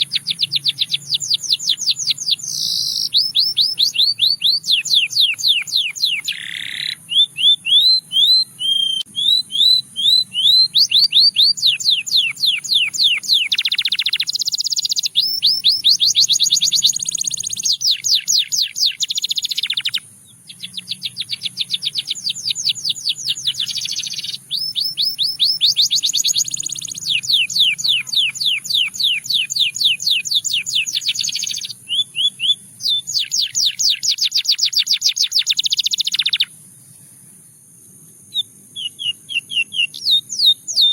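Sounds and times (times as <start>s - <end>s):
canary singing trills: 0.0s - 37.4s, 38.2s - 40.9s.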